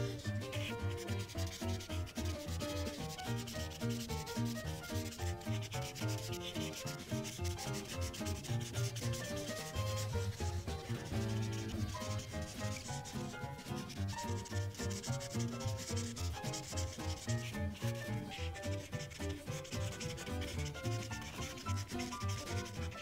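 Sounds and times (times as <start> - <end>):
marker rubbing on paper: 0.0 - 23.0
quiet background music: 0.0 - 23.0.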